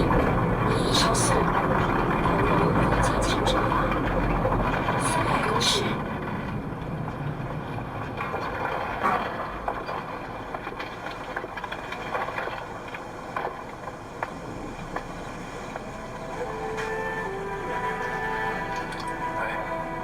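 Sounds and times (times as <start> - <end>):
road and engine noise: 0.0 - 20.0.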